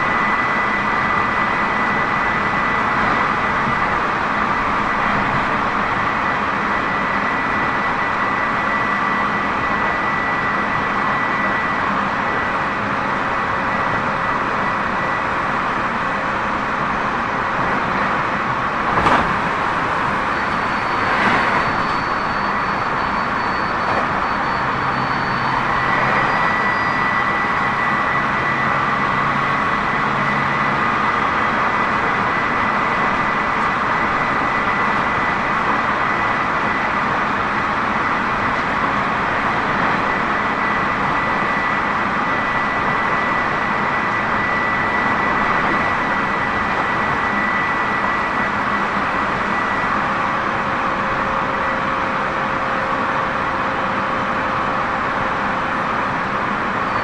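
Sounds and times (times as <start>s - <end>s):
steady high whine: 0.0s - 57.0s
train wheels rumbling on rail: 0.0s - 57.0s.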